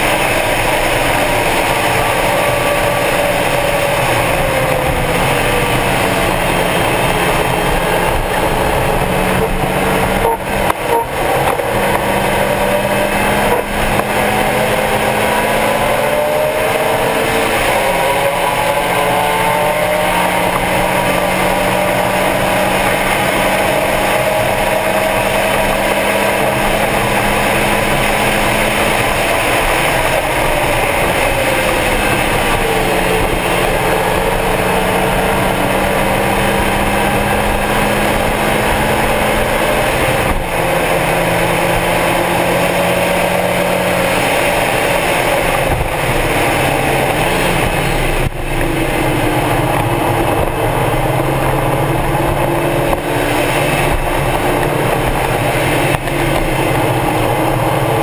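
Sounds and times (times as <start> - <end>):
car engine at high revs: 0.0 - 58.0
wind and road noise: 0.0 - 58.0.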